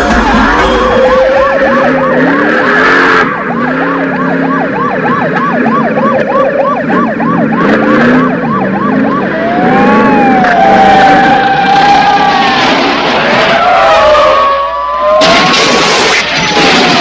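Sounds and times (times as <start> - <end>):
car engines running: 0.0 - 17.0
police siren yelping and wailing: 0.0 - 17.0.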